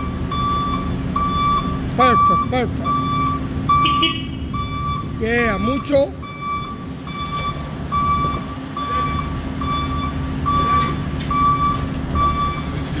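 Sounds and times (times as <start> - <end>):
forklift warning beeper: 0.0 - 13.0
low hum of running truck: 0.0 - 13.0.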